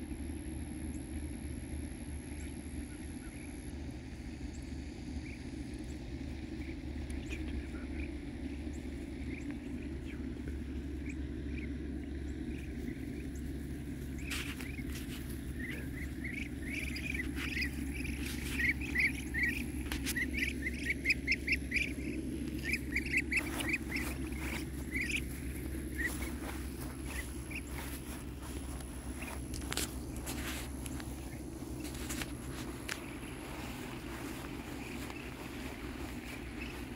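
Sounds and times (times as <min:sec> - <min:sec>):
low background rumble: 0:00.0 - 0:36.9
ducklings peeping: 0:02.2 - 0:36.9.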